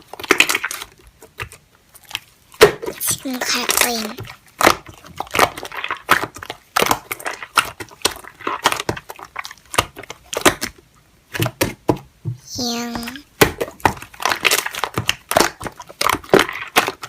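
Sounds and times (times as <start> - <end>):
slime clicking and crackling: 0.0 - 12.0, 12.6 - 17.0.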